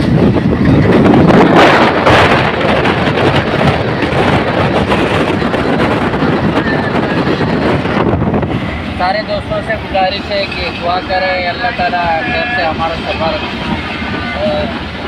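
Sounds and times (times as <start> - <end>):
train rumbling on track: 0.0 - 15.0
wind buffeting microphone: 0.0 - 15.0.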